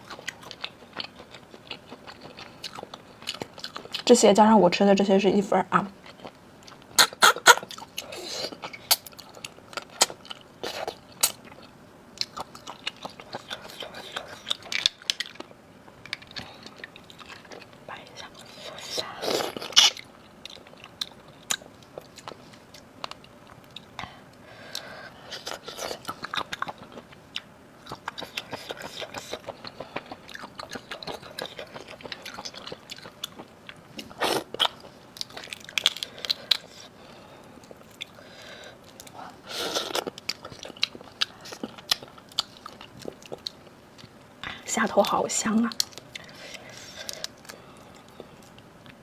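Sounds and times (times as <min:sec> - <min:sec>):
wet chewing and crunching: 0:00.0 - 0:04.1, 0:06.0 - 0:49.0.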